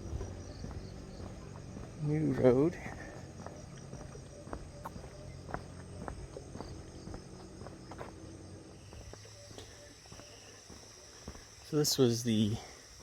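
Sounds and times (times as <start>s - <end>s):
footsteps on road: 0.0s - 13.0s
insects chirring: 0.0s - 13.0s.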